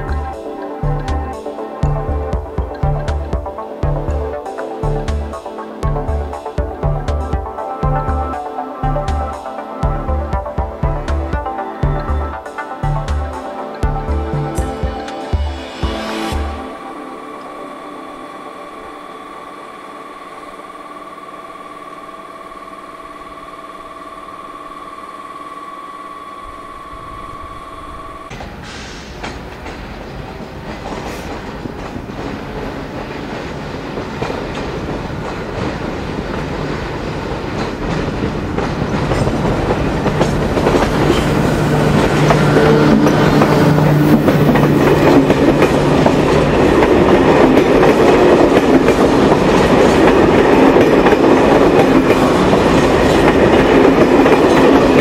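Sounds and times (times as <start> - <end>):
electric locomotive high whine: 0.0 - 55.0
train passing: 0.0 - 55.0.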